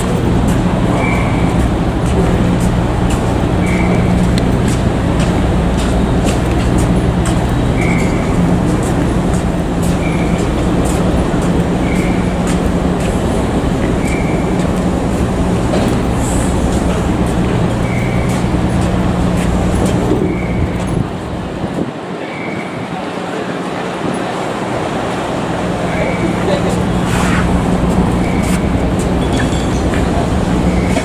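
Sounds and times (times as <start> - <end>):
ship engines humming: 0.0 - 31.0.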